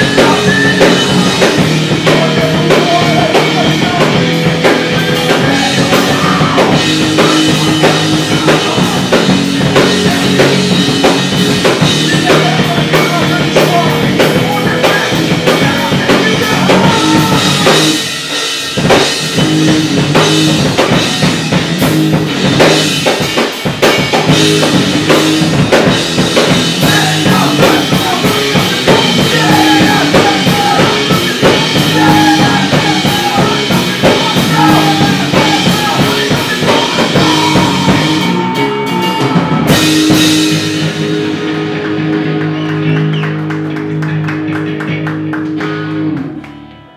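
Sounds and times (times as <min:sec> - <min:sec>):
drum kit: 0:00.0 - 0:46.7
bass guitar: 0:00.0 - 0:46.9
electric guitar: 0:00.0 - 0:46.9.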